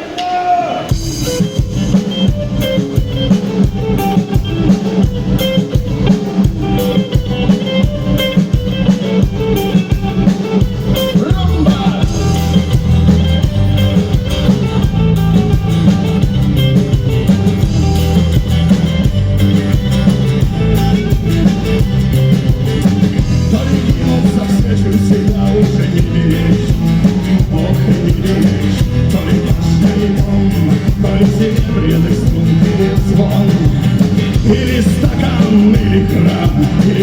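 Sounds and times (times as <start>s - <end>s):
drum kit: 0.0s - 37.0s
guitar: 0.0s - 37.0s.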